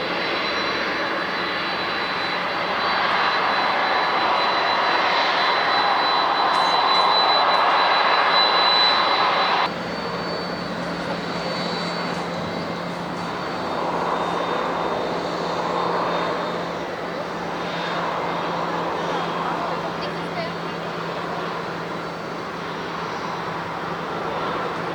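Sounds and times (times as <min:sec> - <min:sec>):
jet engines whining: 0:00.0 - 0:24.9.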